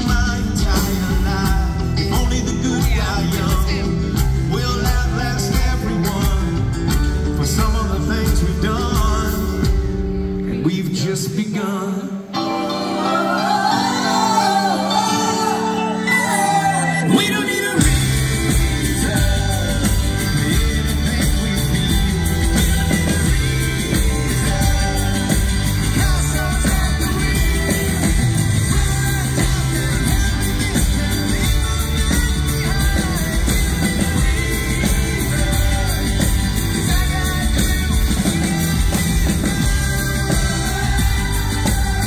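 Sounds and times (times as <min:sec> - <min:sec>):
wordless singing: 0:00.0 - 0:06.7, 0:10.5 - 0:42.0
live rock band: 0:00.0 - 0:42.0.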